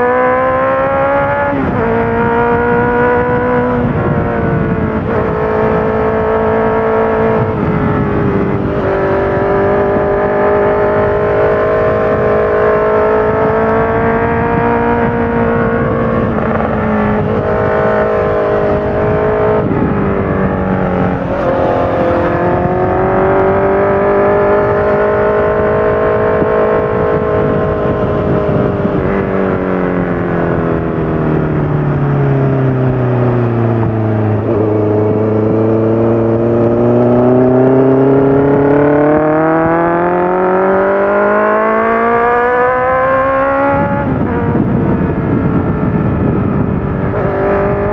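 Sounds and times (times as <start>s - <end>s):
motorcycle engine shifting gears: 0.0s - 47.9s.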